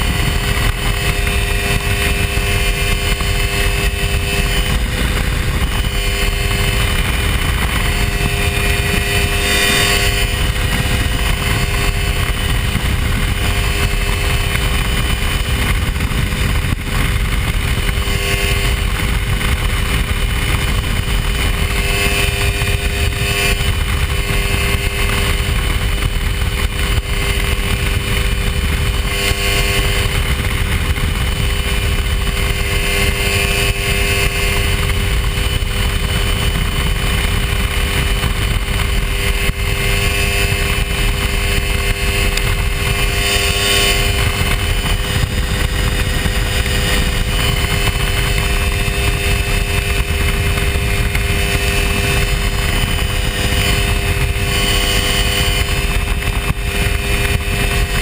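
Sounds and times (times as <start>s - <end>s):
ultralight engine and propeller drone: 0.0s - 58.0s.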